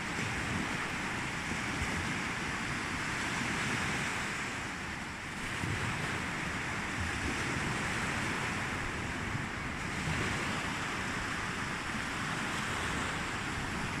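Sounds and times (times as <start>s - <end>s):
sea surf washing in: 0.0s - 14.0s
wind rumbling on the microphone: 0.0s - 14.0s.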